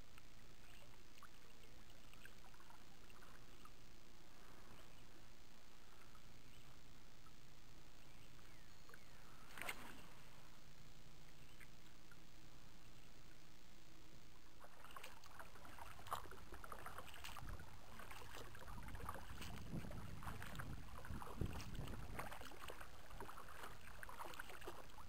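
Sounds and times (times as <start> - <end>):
faint low hum: 0.0 - 25.0
water lapping and trickling: 0.0 - 25.0.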